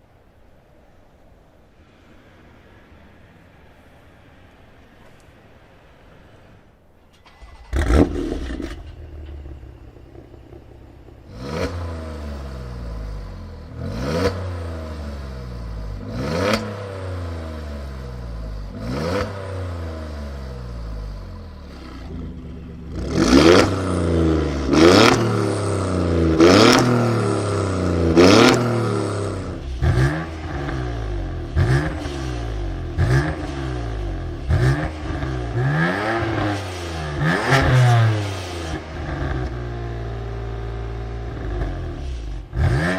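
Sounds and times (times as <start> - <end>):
sports car engine revving: 7.4 - 42.9.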